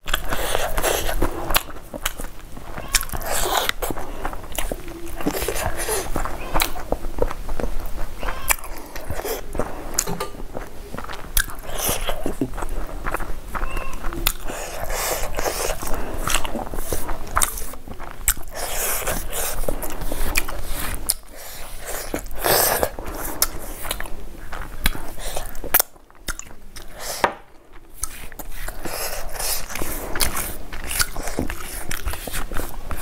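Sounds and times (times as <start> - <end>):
wet chewing: 0.0 - 33.0.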